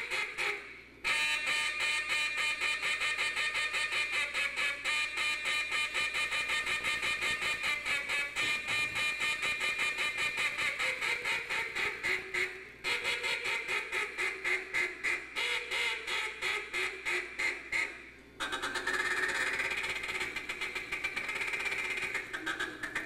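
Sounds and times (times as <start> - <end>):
duck call quacks: 0.0 - 23.0
fast duck call chatter: 0.0 - 23.0.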